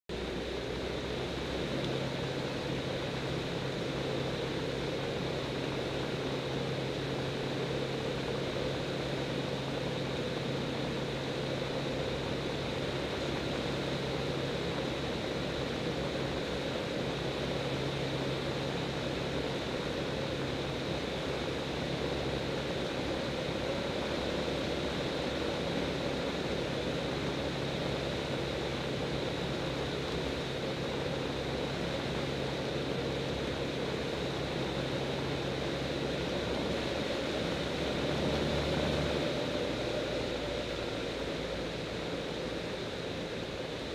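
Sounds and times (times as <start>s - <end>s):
aircraft engine droning: 0.1s - 43.9s.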